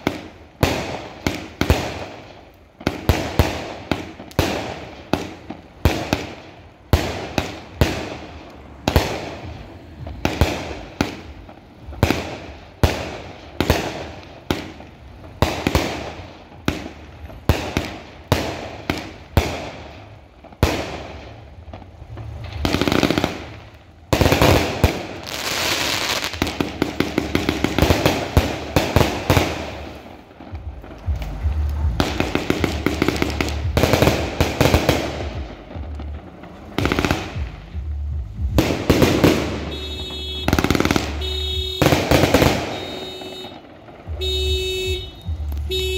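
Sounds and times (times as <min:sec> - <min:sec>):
firework bangs: 0:00.0 - 0:45.9
rapid firework crackling: 0:00.0 - 0:45.9.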